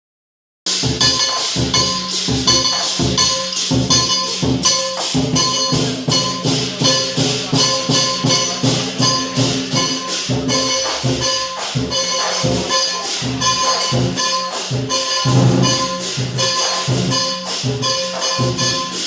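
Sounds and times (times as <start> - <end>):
cymbals clashing: 0.7 - 19.0
gong: 0.7 - 19.0
large drum beating: 0.7 - 19.0.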